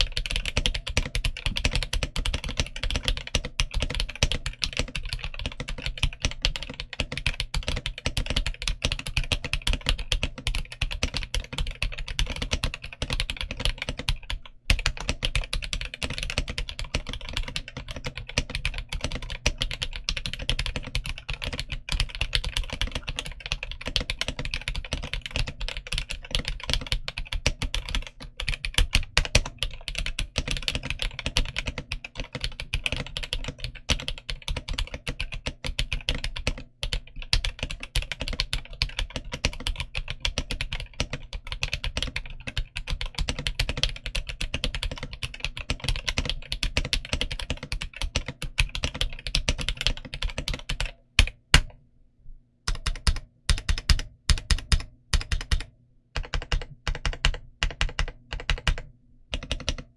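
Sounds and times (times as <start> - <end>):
fast typing on mechanical keyboard: 0.0 - 51.7, 52.7 - 59.9.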